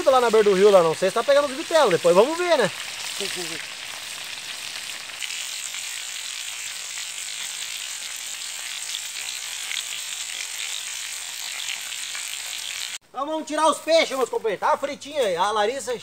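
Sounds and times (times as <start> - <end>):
fish deep-frying in hot oil: 0.0 - 13.0.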